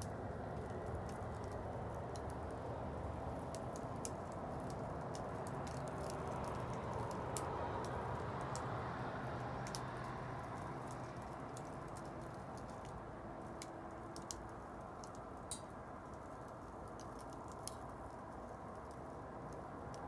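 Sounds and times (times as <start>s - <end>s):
wood crackling and popping: 0.0s - 20.0s.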